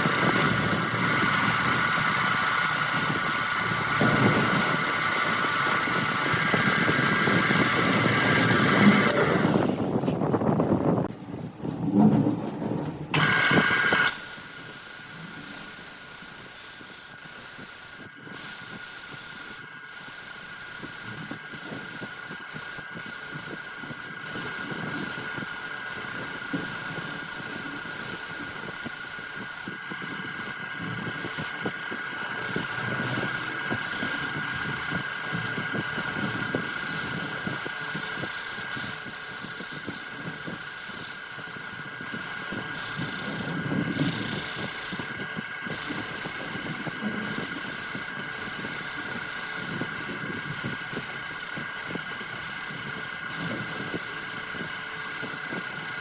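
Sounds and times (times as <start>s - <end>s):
wood lathe whining: 0.0s - 10.0s, 13.1s - 14.3s, 17.2s - 56.0s
tool scraping spinning wood: 0.0s - 10.4s, 11.1s - 56.0s.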